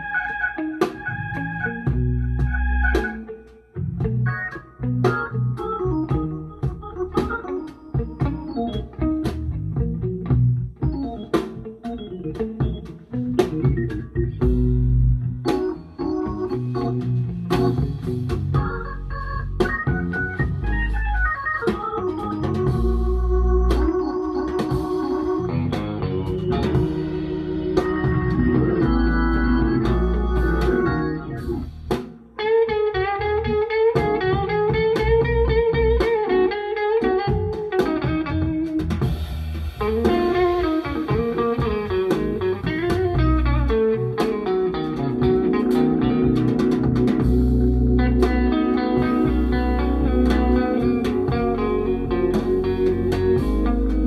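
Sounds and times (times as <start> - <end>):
organ-led music: 0.0 - 54.0.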